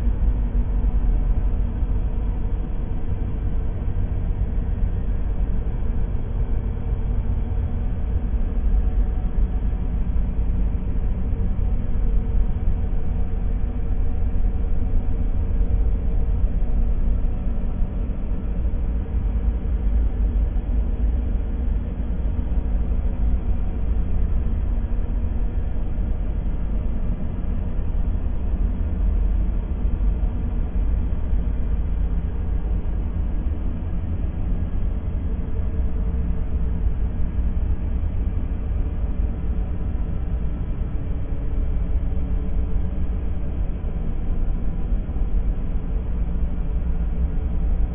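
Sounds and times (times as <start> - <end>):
faint hum: 0.0 - 47.9.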